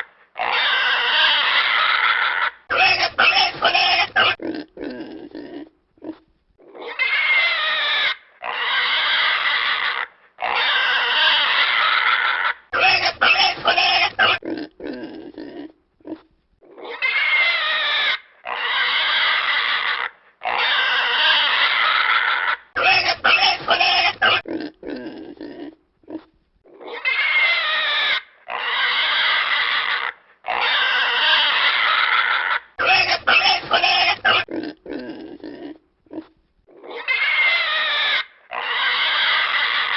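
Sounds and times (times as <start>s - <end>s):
pig grunting: 0.0s - 39.9s
pig squealing: 0.0s - 39.9s.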